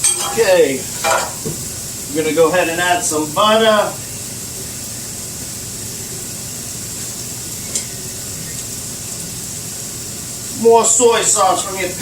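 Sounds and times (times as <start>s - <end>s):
food sizzling on grill: 0.0s - 12.0s.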